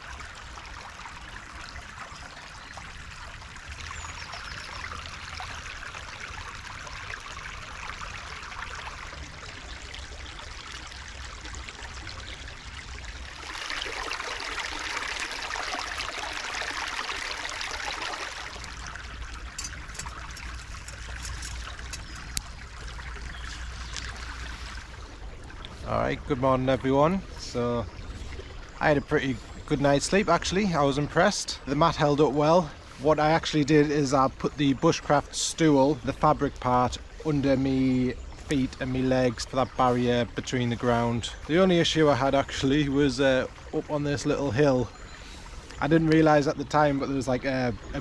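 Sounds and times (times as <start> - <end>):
stream running over stones: 0.0 - 48.0.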